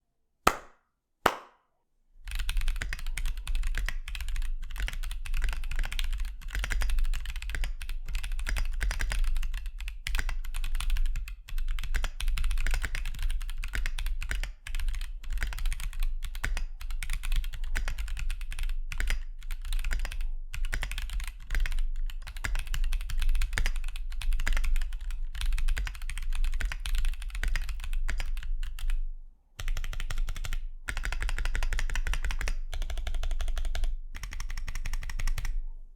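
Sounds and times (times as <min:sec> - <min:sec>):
fast typing on mechanical keyboard: 0:02.3 - 0:29.0, 0:29.6 - 0:35.6.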